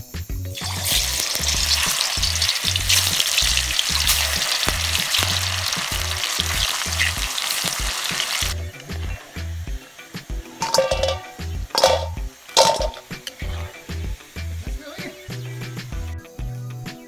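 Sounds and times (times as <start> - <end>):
background music with bass line: 0.0 - 17.0
food sizzling in hot oil: 0.4 - 16.4.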